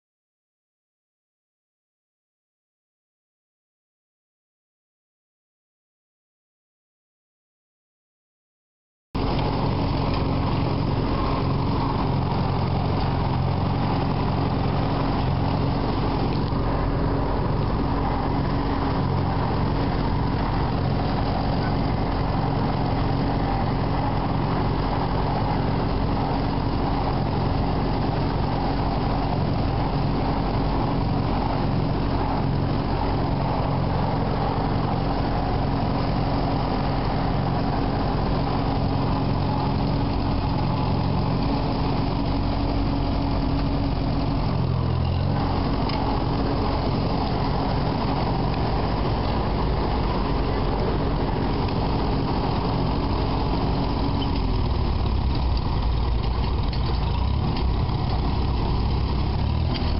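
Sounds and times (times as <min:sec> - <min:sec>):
tractor engine idling: 0:09.2 - 0:59.9.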